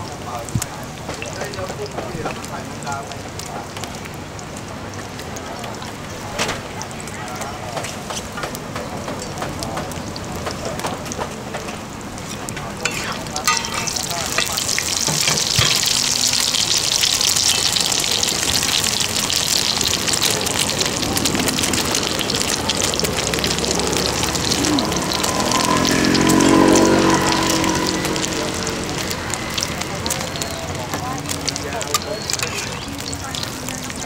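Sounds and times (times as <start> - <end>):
omelet deep-frying in oil: 0.0 - 34.0.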